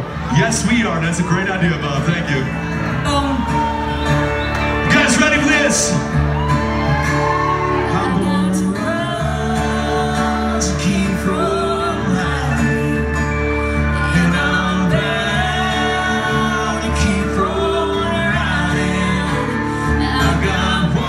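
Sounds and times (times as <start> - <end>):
guitar: 0.0 - 21.0
live country band playing: 0.0 - 21.0
steady bass: 0.0 - 21.0.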